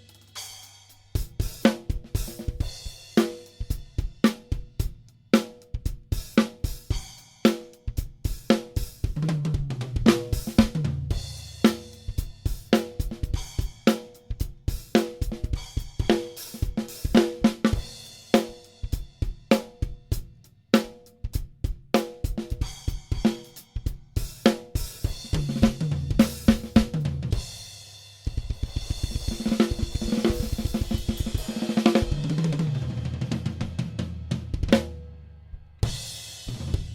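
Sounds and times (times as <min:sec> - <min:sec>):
acoustic drum kit groove: 0:00.0 - 0:36.9.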